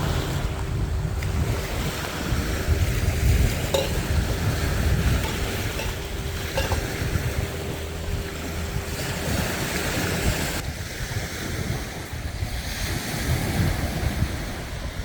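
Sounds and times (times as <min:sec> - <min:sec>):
water splashing along boat hull: 0:00.0 - 0:14.8
wind buffeting microphone: 0:00.0 - 0:15.0.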